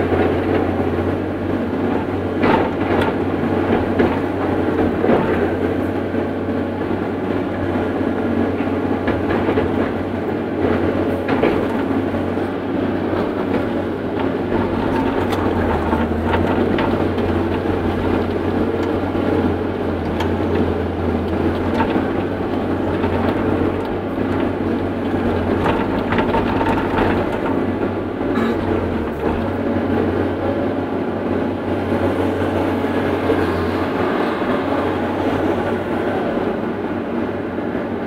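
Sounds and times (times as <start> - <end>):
excavator diesel engine and hydraulics: 0.0 - 38.0.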